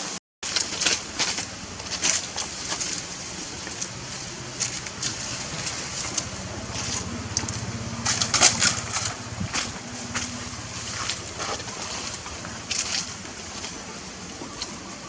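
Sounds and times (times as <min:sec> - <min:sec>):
crunching and crackling: 0:00.4 - 0:15.0
low steady hum: 0:00.4 - 0:15.0.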